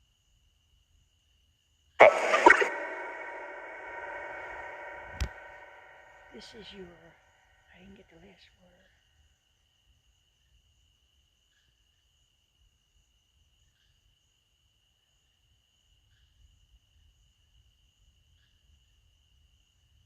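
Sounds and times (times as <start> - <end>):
crickets droning: 0.0 - 2.0, 2.7 - 20.0.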